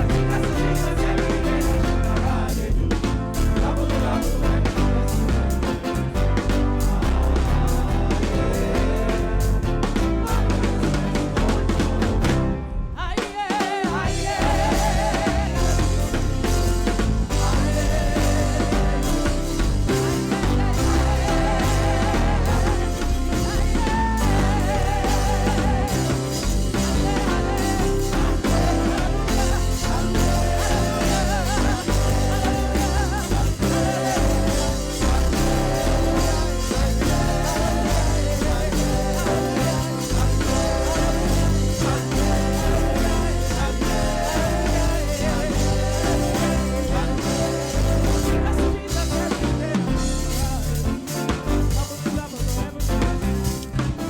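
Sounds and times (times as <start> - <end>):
bass guitar: 0.0 - 13.0, 13.9 - 54.0
drums: 0.0 - 54.0
guitar: 0.0 - 54.0
voices singing: 0.0 - 54.0.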